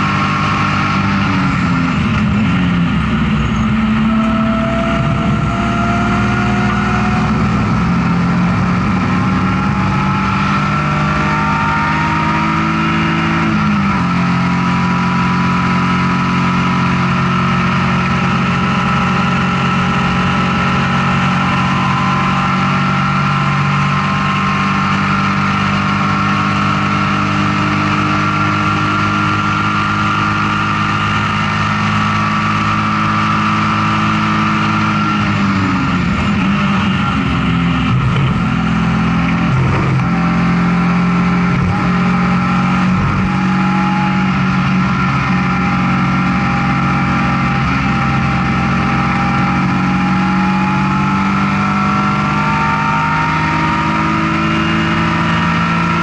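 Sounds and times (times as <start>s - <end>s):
race car engine running hard: 0.0s - 56.0s
road and wind noise: 0.0s - 56.0s.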